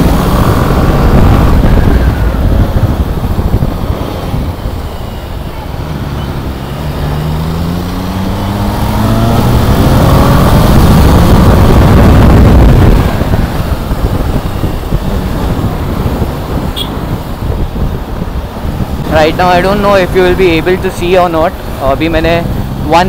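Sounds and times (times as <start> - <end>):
motorcycle engine accelerating: 0.0 - 19.4
road noise: 0.0 - 23.0
wind rushing: 0.0 - 23.0.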